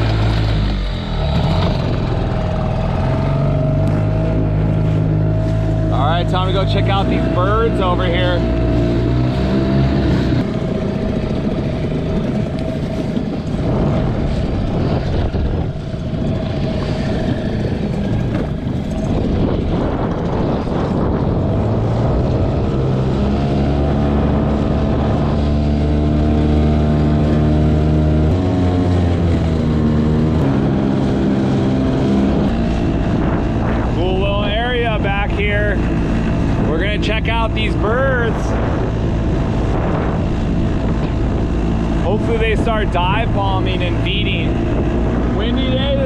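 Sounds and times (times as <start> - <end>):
outboard motor humming: 0.0 - 46.0
water rushing at bow: 0.0 - 46.0
wind on microphone: 0.0 - 46.0.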